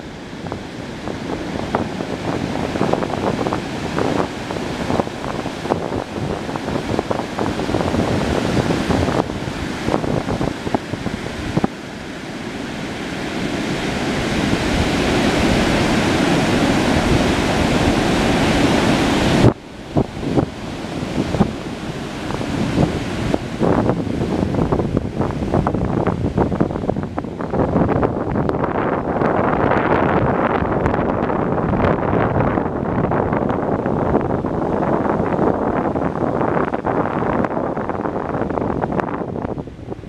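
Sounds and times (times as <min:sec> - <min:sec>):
ocean surf breaking on beach: 0:00.0 - 0:40.0
wind buffeting microphone: 0:00.0 - 0:40.0.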